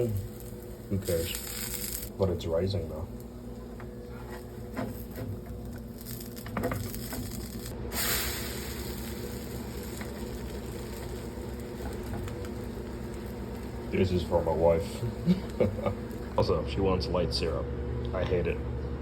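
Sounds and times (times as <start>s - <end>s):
batter sizzling in a pan: 0.0s - 16.4s
steady low hum: 0.0s - 19.0s.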